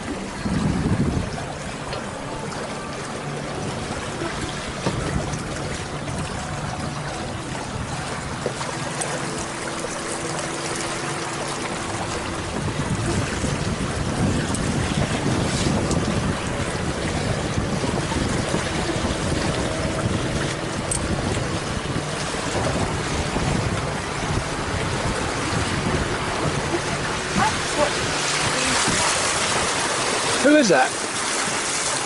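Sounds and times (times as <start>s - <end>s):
water rushing past hulls: 0.0s - 32.0s
wind buffeting microphone: 0.0s - 32.0s.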